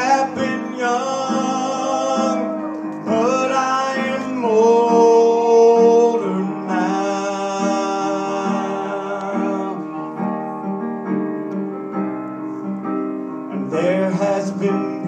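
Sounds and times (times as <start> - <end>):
man singing a hymn: 0.0 - 10.6, 13.5 - 15.0
digital piano chords: 0.0 - 15.0.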